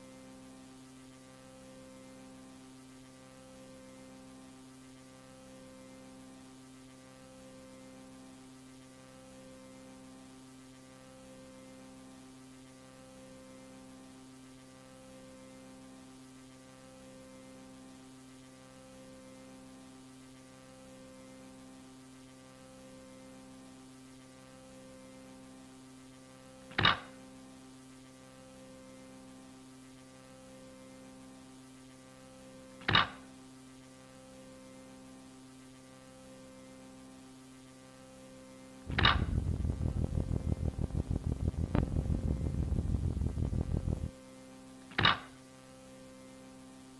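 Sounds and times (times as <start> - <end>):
steady electrical hum with pulsing tone: 0.0 - 46.9.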